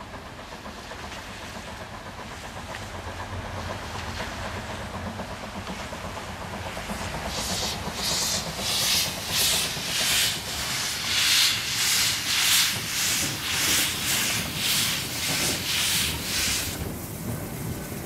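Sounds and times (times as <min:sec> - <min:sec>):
steam locomotive chuffing: 0:00.0 - 0:18.0.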